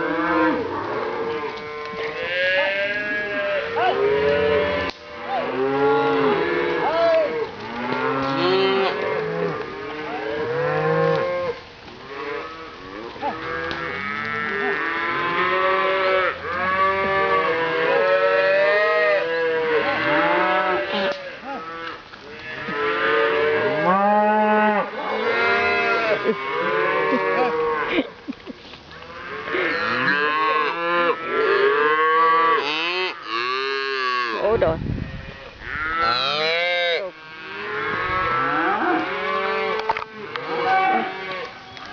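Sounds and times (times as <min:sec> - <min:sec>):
cattle mooing: 0:00.0 - 0:28.2, 0:28.9 - 0:34.6, 0:35.2 - 0:41.6.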